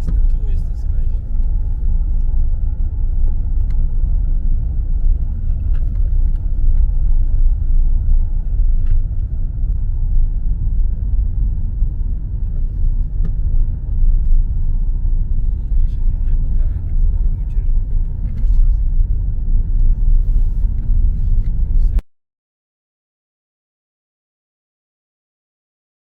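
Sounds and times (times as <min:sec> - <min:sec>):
road rumble inside car: 0:00.0 - 0:22.1.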